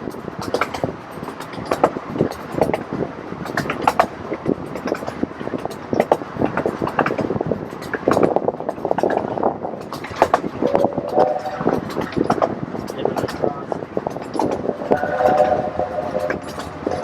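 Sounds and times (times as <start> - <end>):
steady rumble: 0.0 - 17.0
toy train clattering on track: 0.0 - 17.0.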